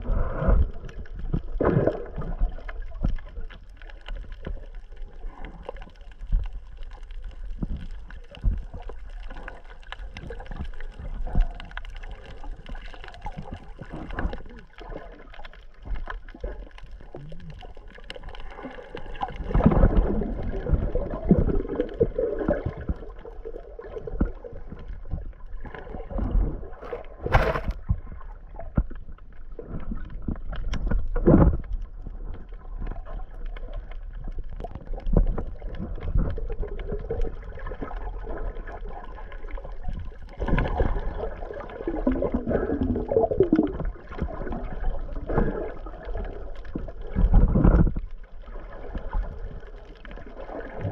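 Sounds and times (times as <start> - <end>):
underwater swirling and gurgling: 0.0 - 50.9.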